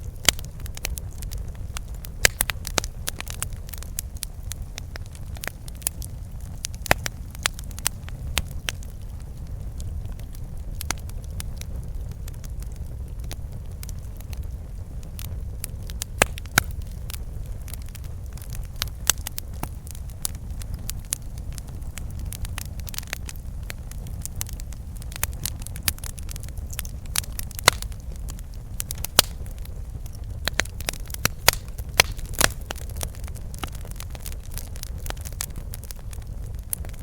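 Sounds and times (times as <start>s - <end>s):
low rumble of fire: 0.0s - 37.0s
wood crackling and popping: 0.0s - 37.0s.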